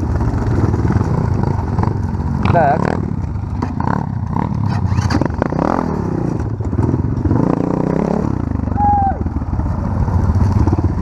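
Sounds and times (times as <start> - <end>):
vehicle clattering over rough ground: 0.0 - 8.2, 9.4 - 11.0
off-road vehicle engine revving: 0.0 - 9.0.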